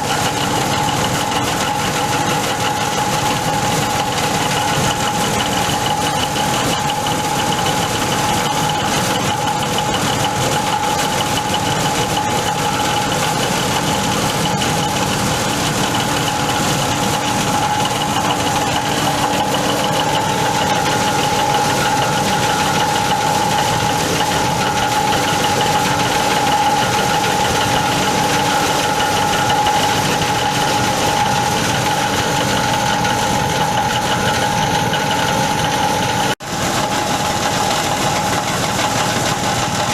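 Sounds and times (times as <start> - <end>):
shredding machine whining: 0.0 - 39.9.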